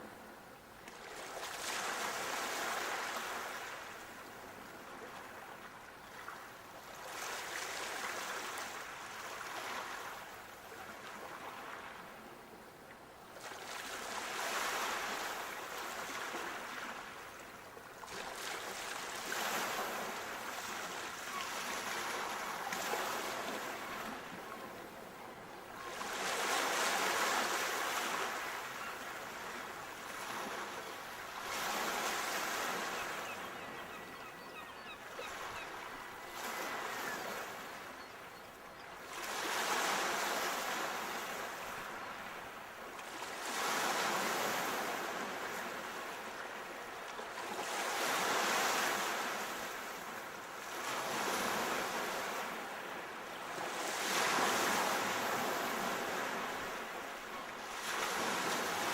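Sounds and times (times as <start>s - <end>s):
sea waves breaking on shore: 0.8s - 12.2s, 13.4s - 58.9s.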